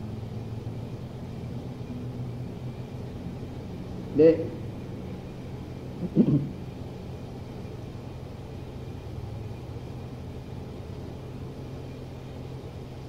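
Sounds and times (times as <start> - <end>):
low hum with faint hiss: 0.0 - 13.0.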